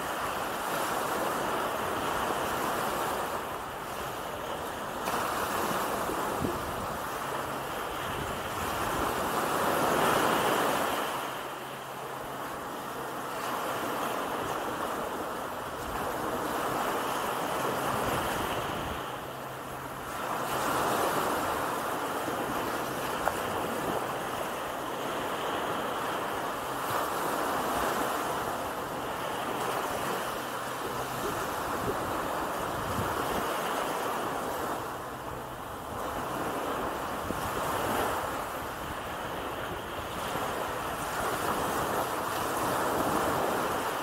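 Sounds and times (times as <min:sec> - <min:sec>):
waves washing onto beach: 0:00.0 - 0:44.0.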